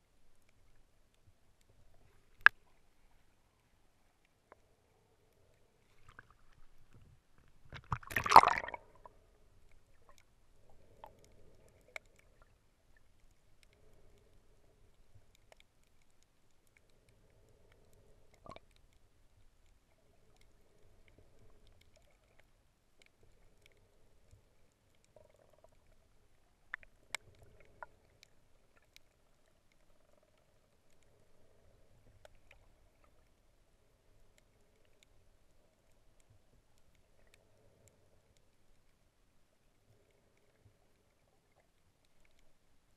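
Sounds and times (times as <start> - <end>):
faint low underwater rumble: 0.0 - 42.9
sharp clicks underwater: 0.3 - 2.8, 5.3 - 39.0.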